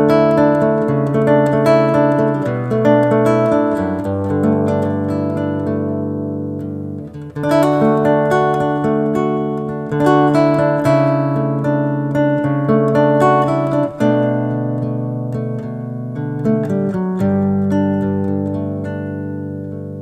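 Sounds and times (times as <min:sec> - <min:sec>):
acoustic guitar picking melody: 0:00.0 - 0:20.0.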